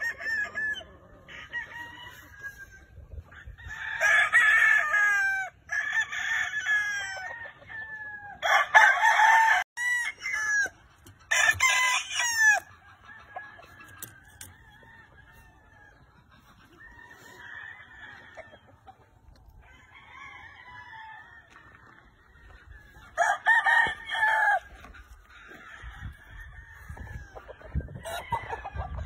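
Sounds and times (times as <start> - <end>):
rooster crowing loudly: 0.0 - 15.8, 16.8 - 18.6, 19.6 - 29.0
distant roosters crowing: 0.0 - 29.0.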